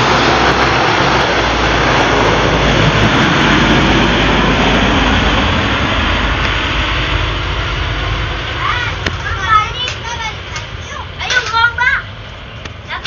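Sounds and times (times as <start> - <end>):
low hum: 0.0 - 13.0
turboprop aircraft engines droning: 0.0 - 13.0.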